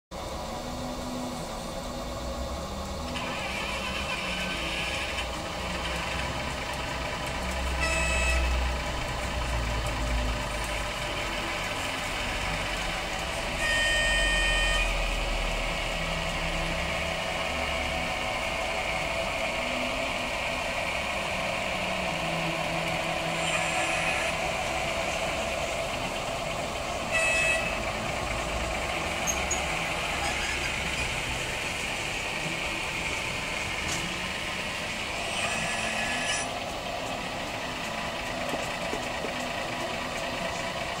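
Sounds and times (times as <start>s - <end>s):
model diesel engine sound: 0.1s - 41.0s.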